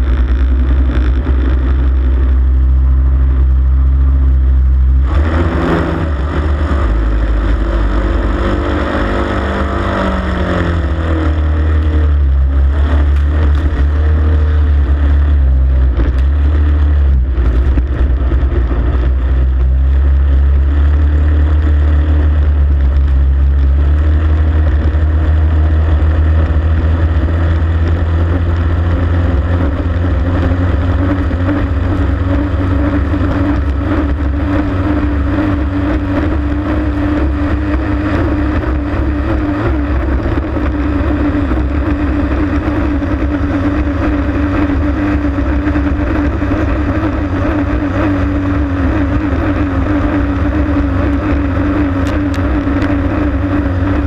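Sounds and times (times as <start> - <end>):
boat engine running loud: 0.0 - 54.0.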